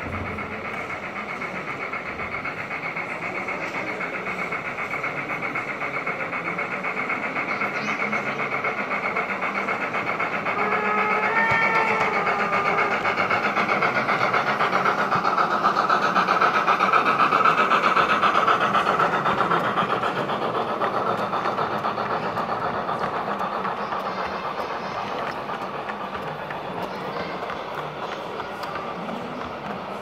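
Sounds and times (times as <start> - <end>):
model train rolling clatter: 0.0 - 30.0.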